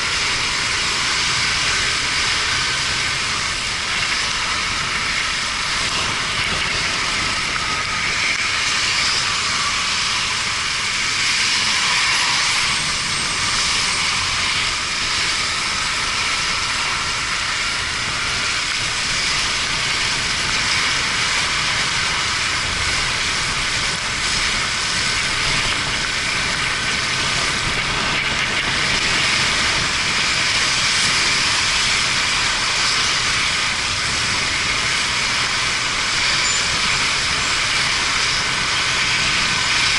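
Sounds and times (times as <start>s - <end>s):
wind and tyre spray rush: 0.0s - 39.9s.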